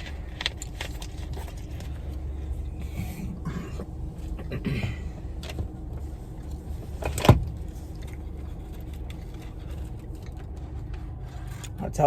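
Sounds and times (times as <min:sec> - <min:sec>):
car low rumble: 0:00.0 - 0:12.0.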